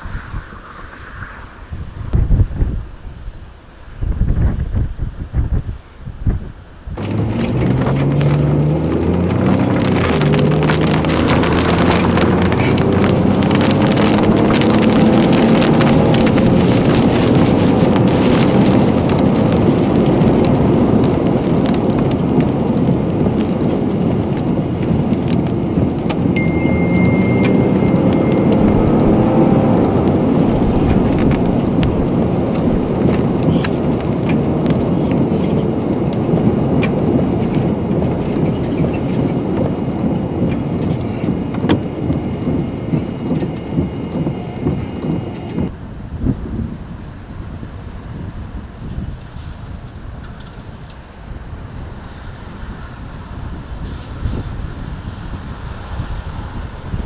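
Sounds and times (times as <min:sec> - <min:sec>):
rush of wind: 0:00.0 - 0:57.0
vehicle engine: 0:06.7 - 0:46.2, 0:48.8 - 0:57.0
heavy rain on vehicle: 0:07.0 - 0:46.3, 0:47.7 - 0:57.0.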